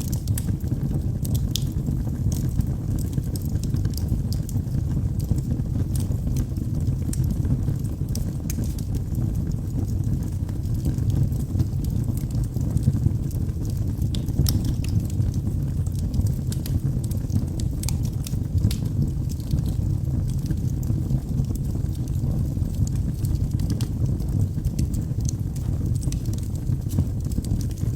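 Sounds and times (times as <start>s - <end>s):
fire rumbling in fireplace: 0.0s - 27.9s
wood crackling and popping: 0.0s - 27.9s.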